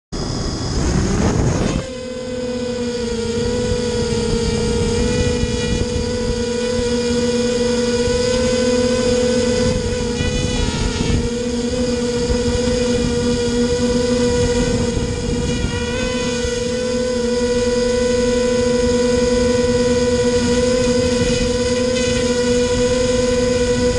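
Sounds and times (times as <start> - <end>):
quadcopter motors whining: 0.2 - 23.9.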